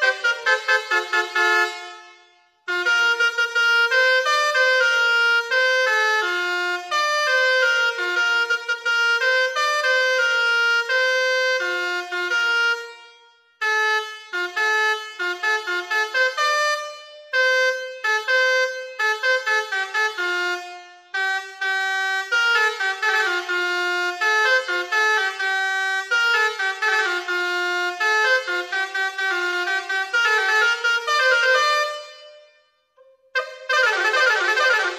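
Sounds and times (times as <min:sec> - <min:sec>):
multi-tone bus horn melody: 0:00.0 - 0:34.9.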